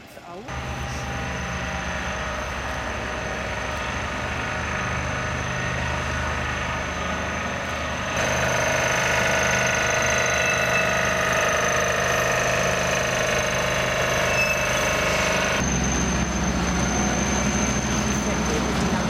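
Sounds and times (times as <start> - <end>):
truck diesel engine running: 0.5 - 19.0.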